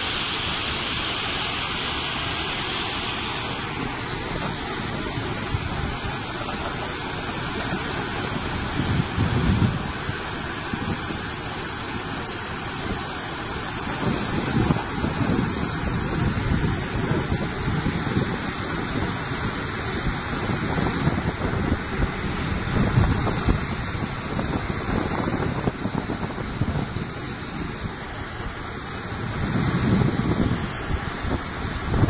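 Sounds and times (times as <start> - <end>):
belt conveyors running: 0.0 - 32.0.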